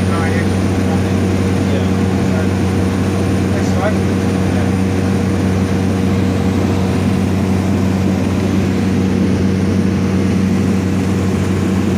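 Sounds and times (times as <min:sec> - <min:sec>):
turboprop engine and propeller drone: 0:00.0 - 0:11.9.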